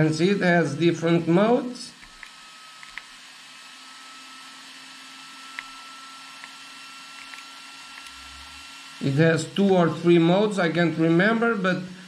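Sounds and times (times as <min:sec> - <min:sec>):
small cooling fan whirring: 0:00.0 - 0:12.0.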